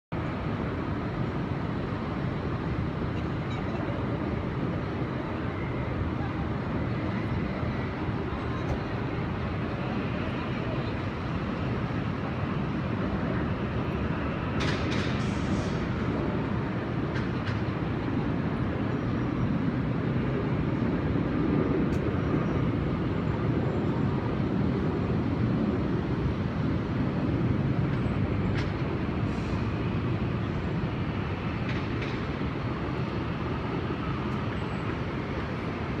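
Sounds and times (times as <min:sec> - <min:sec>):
low city rumble: 0:00.1 - 0:36.0.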